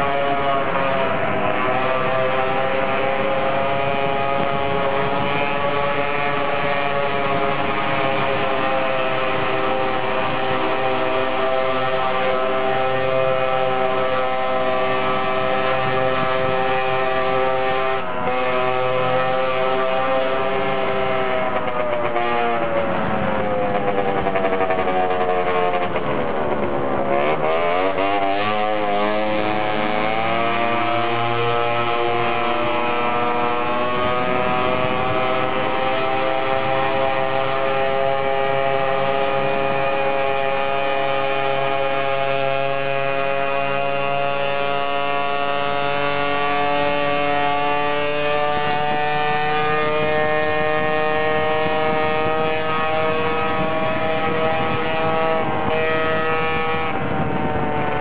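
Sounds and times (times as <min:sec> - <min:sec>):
scooter engine accelerating: 0:00.0 - 0:58.0.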